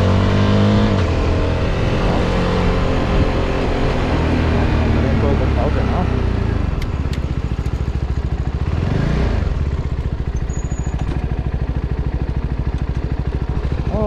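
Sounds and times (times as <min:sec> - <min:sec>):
motorcycle engine slowing and idling: 0:00.0 - 0:14.0.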